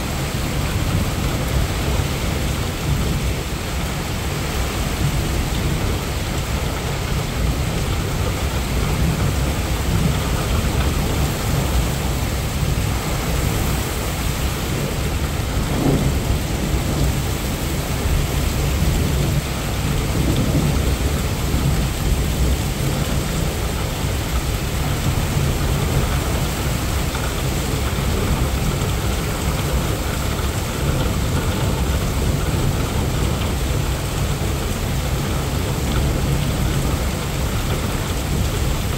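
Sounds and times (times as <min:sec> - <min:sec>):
heavy rain pouring: 0:00.0 - 0:38.9
low rumble of thunder: 0:00.0 - 0:38.9.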